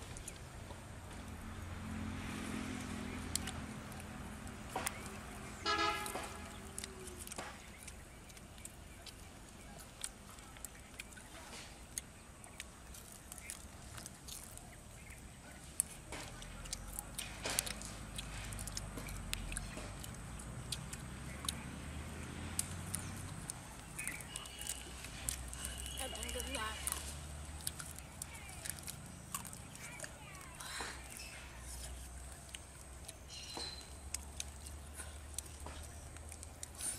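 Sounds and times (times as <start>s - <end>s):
people eating with crunches: 0.0s - 36.9s
vehicle engine rumble: 0.0s - 36.9s.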